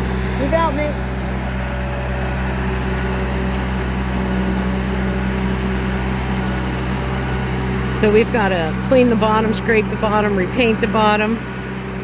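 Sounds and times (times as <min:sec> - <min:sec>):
engine low hum: 0:00.0 - 0:12.0.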